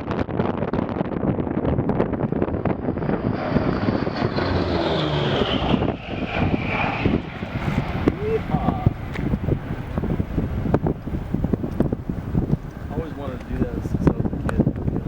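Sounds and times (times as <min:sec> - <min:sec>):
wind buffeting microphone: 0:00.0 - 0:15.0
propeller plane engines passing: 0:01.3 - 0:15.0.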